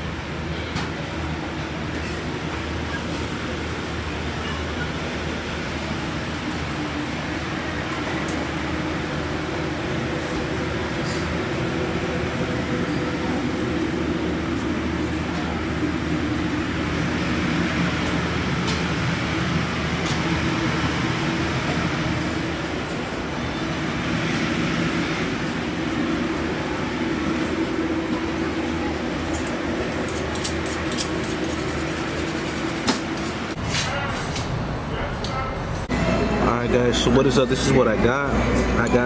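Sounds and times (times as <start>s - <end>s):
low machine hum: 0.0s - 33.6s.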